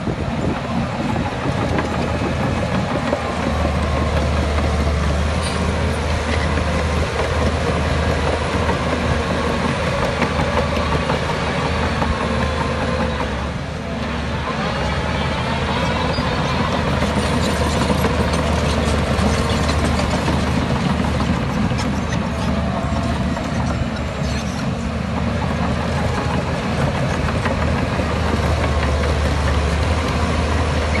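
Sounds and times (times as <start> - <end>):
heavy diesel engine rumbling: 0.0 - 31.0.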